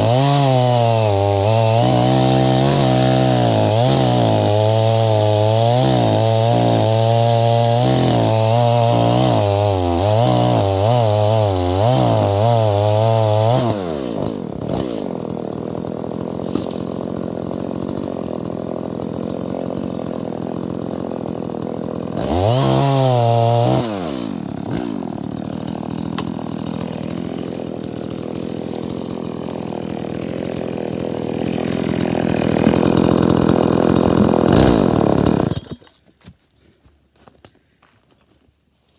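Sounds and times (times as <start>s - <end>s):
chainsaw engine revving and idling: 0.0s - 35.9s.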